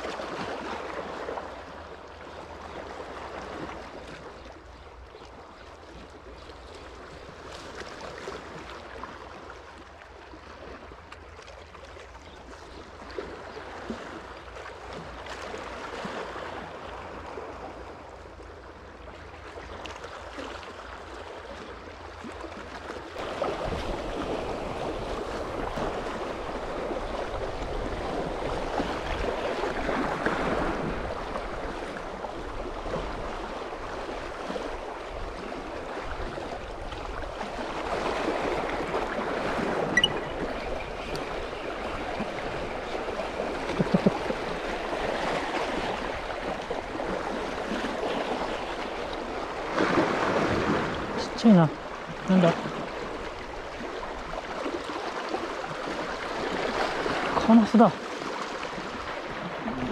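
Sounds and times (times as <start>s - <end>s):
sea water lapping at shore: 0.0s - 59.9s.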